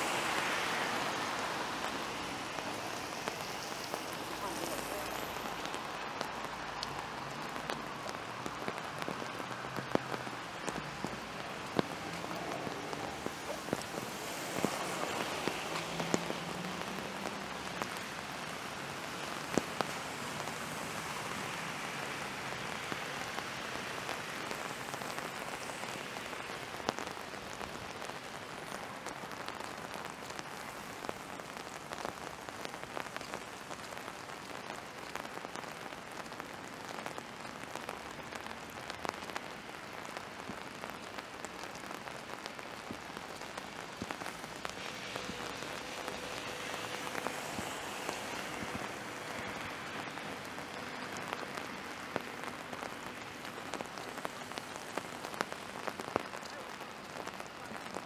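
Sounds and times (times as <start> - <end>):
rain falling: 0.0 - 58.0
raindrops ticking on a surface: 0.0 - 58.0.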